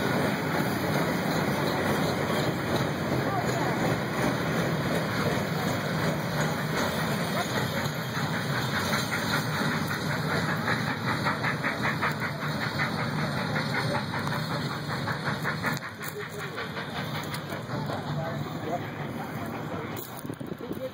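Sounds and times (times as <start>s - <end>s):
steam locomotive chuffing: 0.0s - 20.9s.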